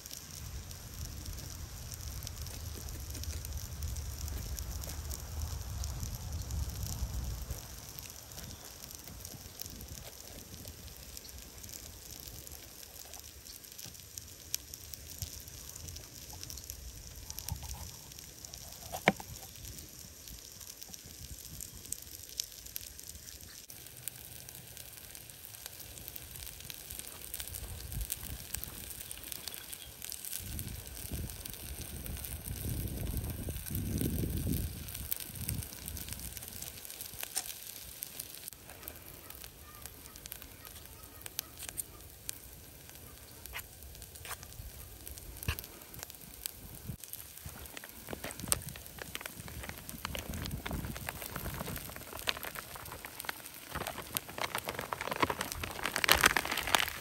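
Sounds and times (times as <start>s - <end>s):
fire pop: 0.0s - 57.0s
wood fire crackling: 0.0s - 57.0s.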